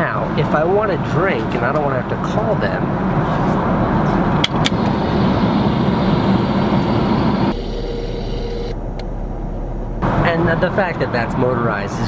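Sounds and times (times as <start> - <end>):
airliner cabin noise: 0.5 - 11.0.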